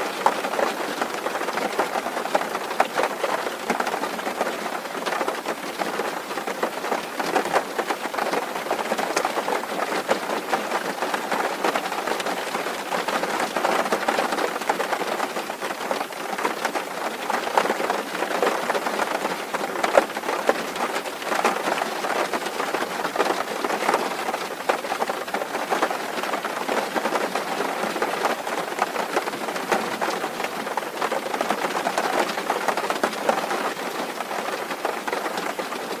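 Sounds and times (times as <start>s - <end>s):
heavy rain on a tin roof: 0.0s - 36.0s.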